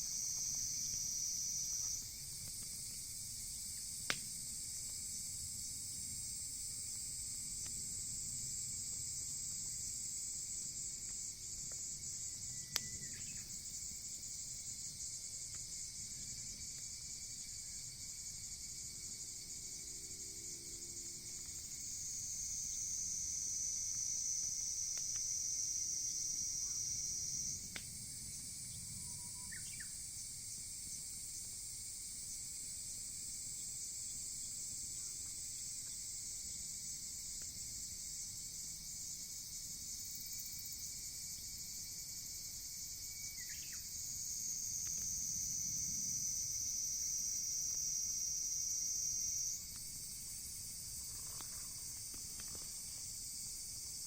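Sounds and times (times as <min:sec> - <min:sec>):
insects chirring: 0:00.0 - 0:54.0
loud even insect trill: 0:00.0 - 0:54.0.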